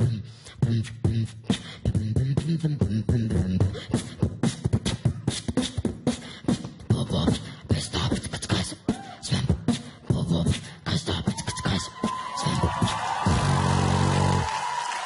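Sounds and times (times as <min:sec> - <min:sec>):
boy beatboxing: 0:00.0 - 0:13.4.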